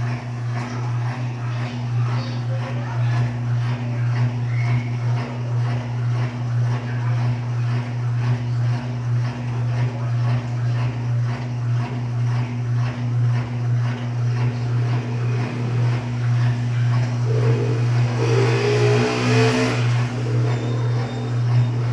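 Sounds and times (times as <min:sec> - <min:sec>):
washing machine agitation: 0:00.0 - 0:21.9
washing machine motor hum: 0:00.0 - 0:21.9.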